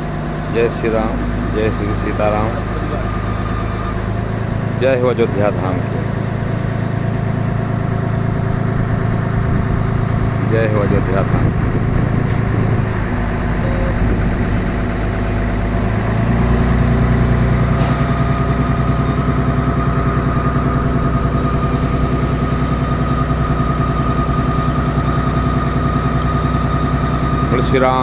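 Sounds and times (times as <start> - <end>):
engine idling: 0.0 - 28.0
steady whine: 0.0 - 28.0.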